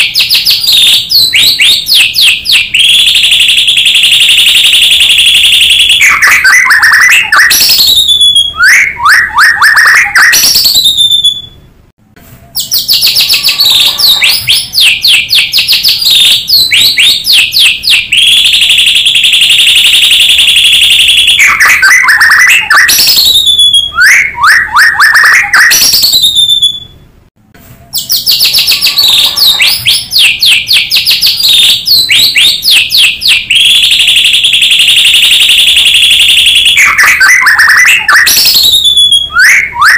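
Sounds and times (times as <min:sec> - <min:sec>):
bird song with whistles: 0:00.0 - 0:11.6, 0:12.5 - 0:27.0, 0:27.8 - 0:39.9.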